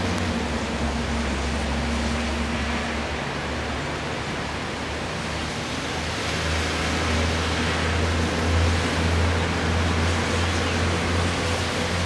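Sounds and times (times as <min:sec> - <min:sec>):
rain on tree foliage: 0:00.0 - 0:12.0.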